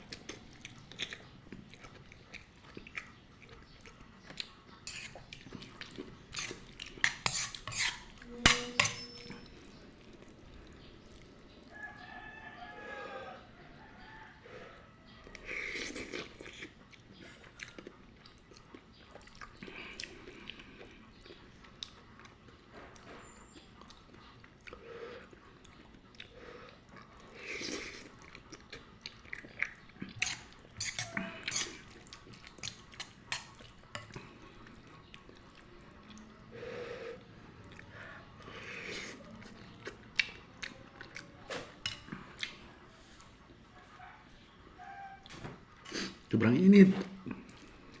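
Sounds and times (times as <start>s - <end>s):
chewing noodles: 0.0s - 46.4s, 47.0s - 48.0s.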